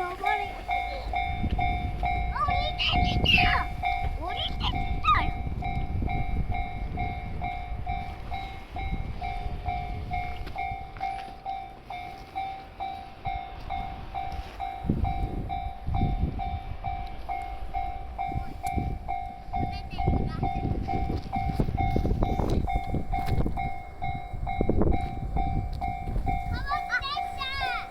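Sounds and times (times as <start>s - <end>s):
freight train rumble: 0.0s - 27.9s
level crossing alarm dinging: 0.0s - 27.9s.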